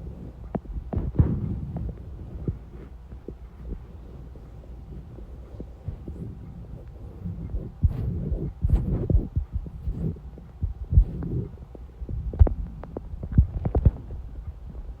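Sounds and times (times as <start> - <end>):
stomach growling and gurgling: 0.0 - 14.2.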